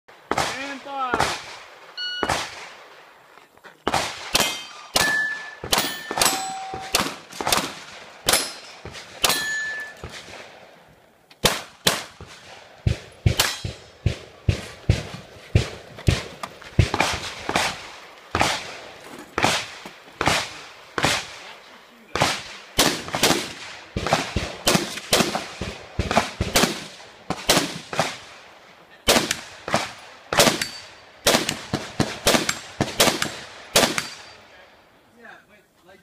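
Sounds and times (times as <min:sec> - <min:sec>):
rifle shots with echo: 0:00.1 - 0:03.1, 0:03.8 - 0:10.8, 0:11.4 - 0:34.6.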